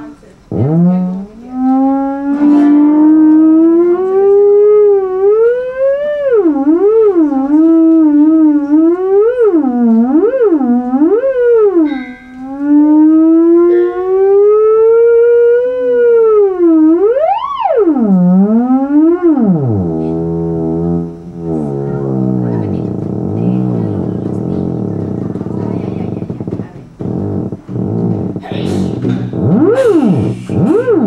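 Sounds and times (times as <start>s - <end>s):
theremin note wavering: 0.0s - 31.0s.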